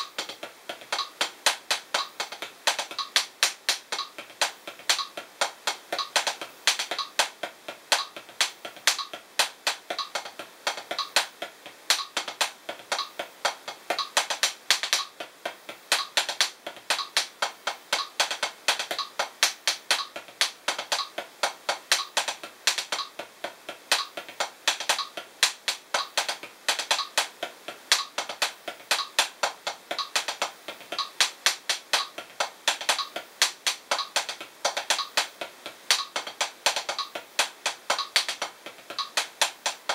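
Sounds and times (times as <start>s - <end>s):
drumsticks tapping practice pad: 0.0s - 39.9s.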